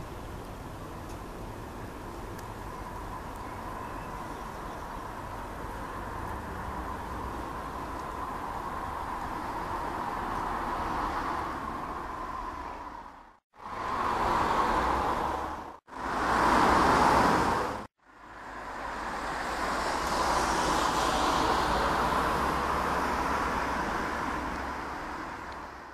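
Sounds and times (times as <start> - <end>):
distant jet engine roar: 0.0 - 25.9.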